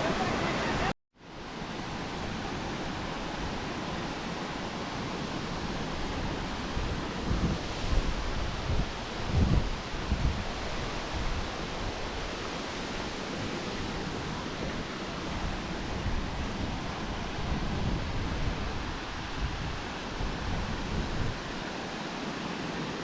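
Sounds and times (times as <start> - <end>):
waterfall rushing: 0.0 - 23.0
wind gusting on microphone: 0.0 - 23.0.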